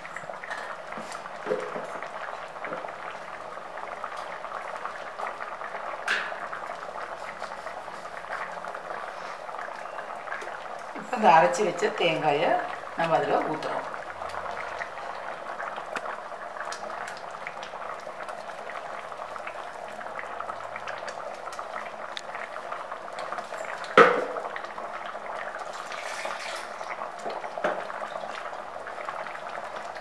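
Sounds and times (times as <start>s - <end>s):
curry bubbling in a pan: 0.0s - 30.0s.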